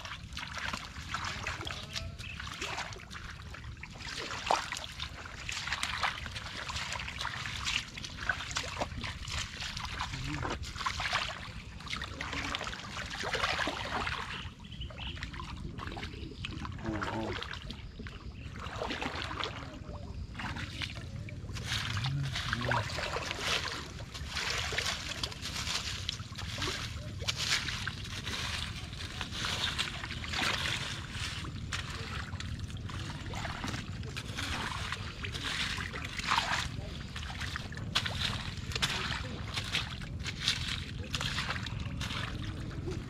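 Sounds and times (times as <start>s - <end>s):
stick squelching through wet mud: 0.0s - 14.4s, 20.4s - 43.0s
water splashing: 0.0s - 43.0s.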